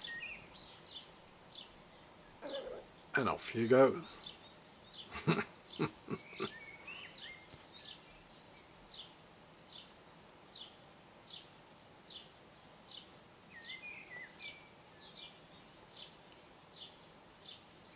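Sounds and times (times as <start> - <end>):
outdoor background hiss: 0.0 - 17.9
songbird chirping: 0.0 - 17.9.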